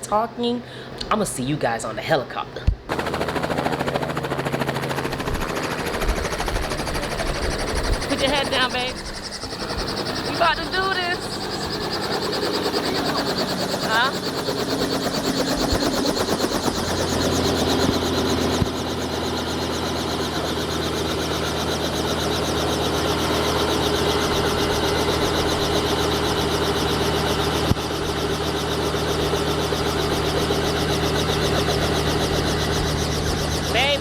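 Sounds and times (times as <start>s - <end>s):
helicopter engine and rotor: 2.9s - 34.0s.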